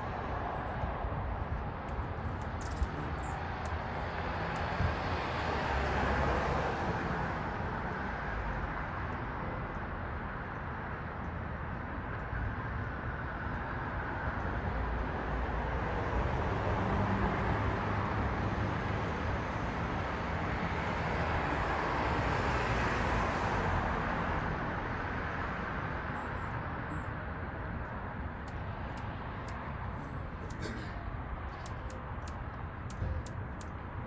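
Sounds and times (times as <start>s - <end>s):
street traffic: 0.0s - 34.0s.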